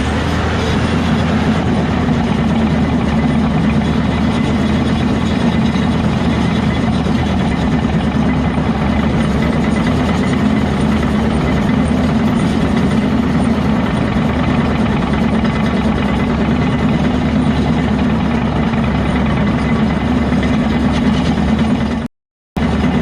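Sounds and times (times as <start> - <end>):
diesel machinery running: 0.0 - 23.0.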